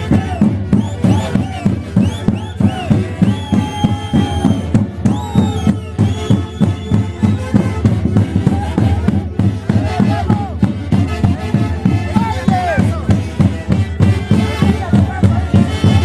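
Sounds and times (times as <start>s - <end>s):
quick drum beat: 0.0s - 16.0s.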